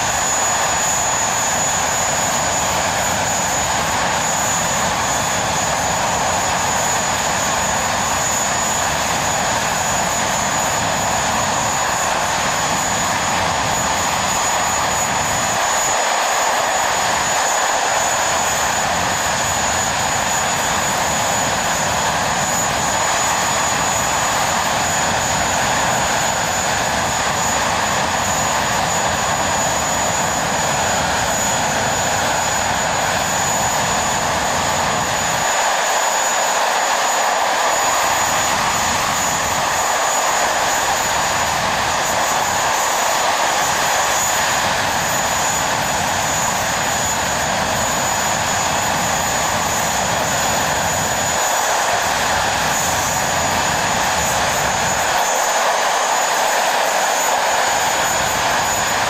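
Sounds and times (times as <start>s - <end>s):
high steady jet whine: 0.0s - 59.0s
jet engine roaring: 0.0s - 59.0s.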